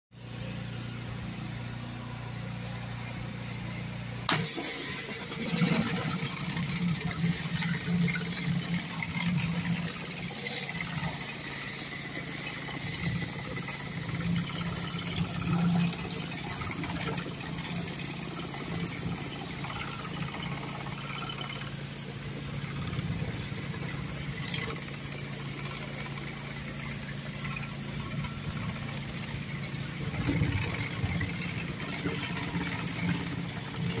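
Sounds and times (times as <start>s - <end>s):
pressure washer engine running: 0.2s - 34.0s
water jets hissing on concrete: 4.3s - 34.0s.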